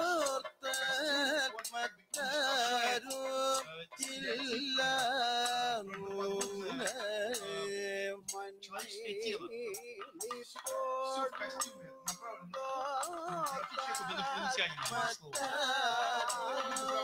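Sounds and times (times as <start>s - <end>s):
person singing long ornamented notes: 0.0s - 17.0s.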